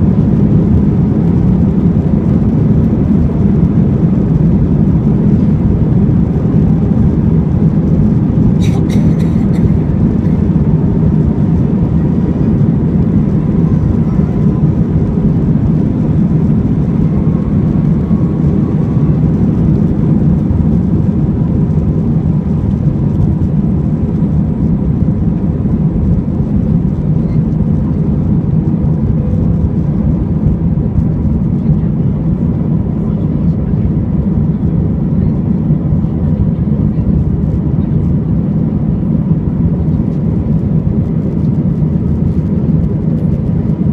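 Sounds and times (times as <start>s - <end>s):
jet engines at takeoff power: 0.0s - 43.9s.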